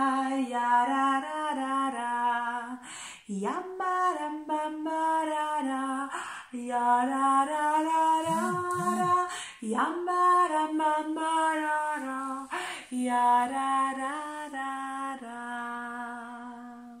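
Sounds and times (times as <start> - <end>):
woman singing slow melody: 0.0 - 17.0.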